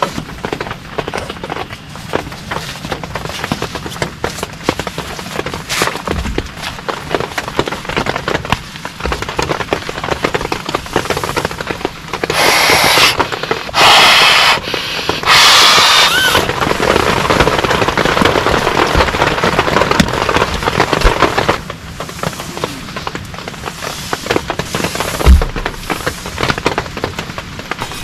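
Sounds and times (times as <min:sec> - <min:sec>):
heavy rain on a tent: 0:00.0 - 0:28.0
hissing rushes of rain: 0:00.0 - 0:28.0.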